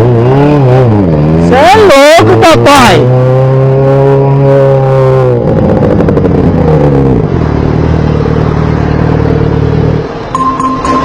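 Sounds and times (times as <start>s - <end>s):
motorcycle engine through loud exhaust: 0.0s - 11.0s.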